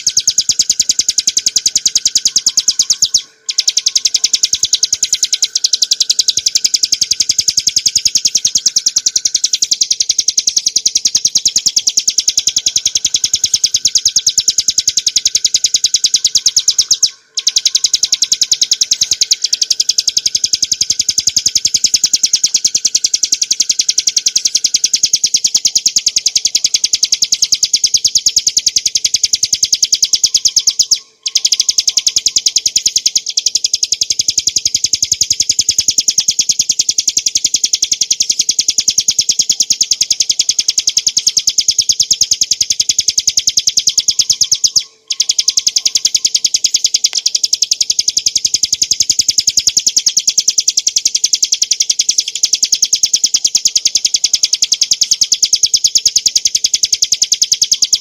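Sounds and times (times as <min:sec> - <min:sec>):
bird singing rapid chattering notes: 0:00.0 - 0:58.0.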